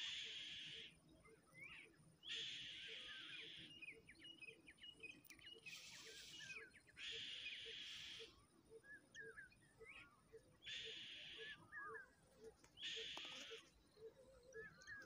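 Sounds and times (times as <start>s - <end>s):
faint high bird chirps: 0.0s - 15.0s.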